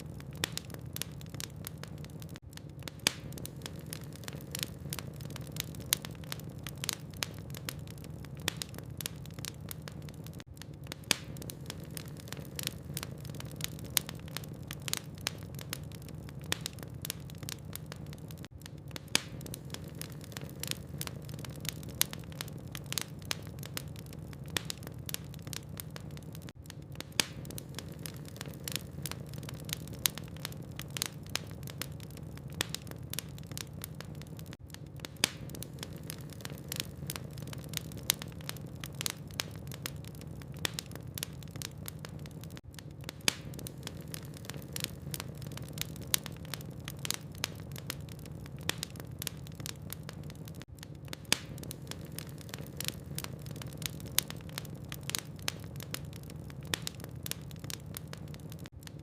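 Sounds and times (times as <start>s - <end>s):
wood logs crackling in fireplace: 0.0s - 59.0s.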